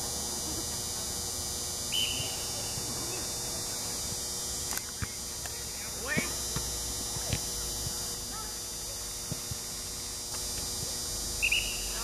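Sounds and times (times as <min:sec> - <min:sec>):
faint distant voices: 0:00.0 - 0:09.8
open-air background hiss: 0:00.0 - 0:12.0.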